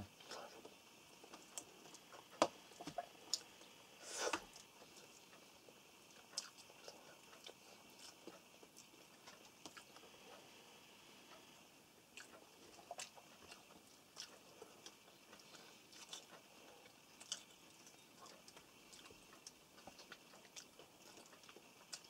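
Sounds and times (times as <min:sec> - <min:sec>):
faint chewing: 0:00.2 - 0:10.6, 0:11.2 - 0:22.0.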